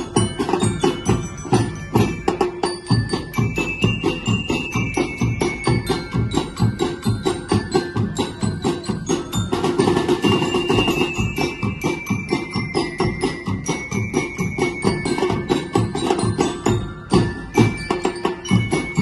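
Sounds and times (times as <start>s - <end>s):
fast percussion beat: 0.0s - 19.0s
ringing bell-like tones: 0.0s - 19.0s.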